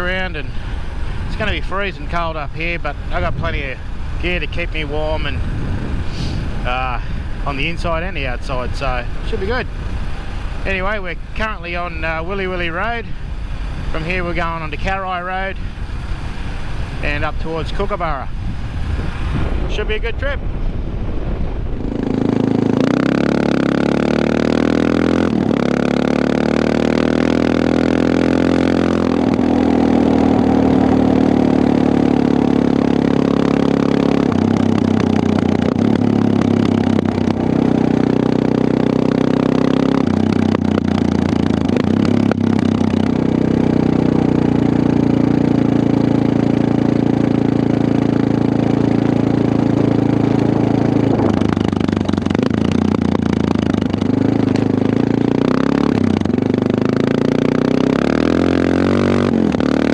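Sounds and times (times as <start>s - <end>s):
motorcycle engine running: 0.0s - 20.1s, 20.9s - 59.9s.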